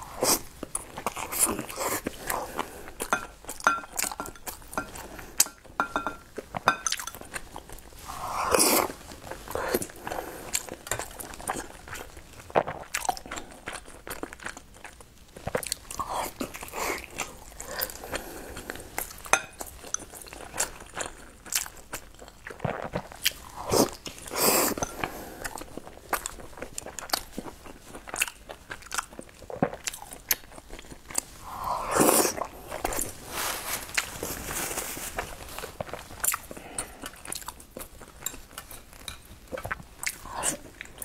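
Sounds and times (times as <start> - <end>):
chewing and smacking sticky rice: 0.0 - 41.0.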